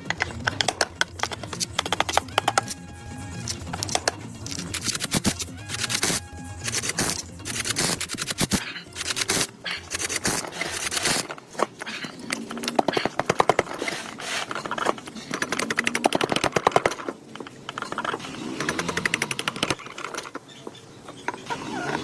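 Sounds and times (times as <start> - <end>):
rapid tool tapping and rattling: 0.0 - 22.0.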